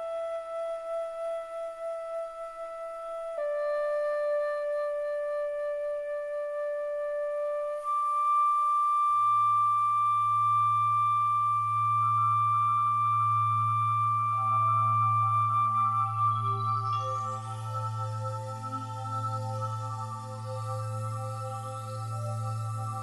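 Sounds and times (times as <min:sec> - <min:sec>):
calm instrumental music: 0:00.0 - 0:23.0.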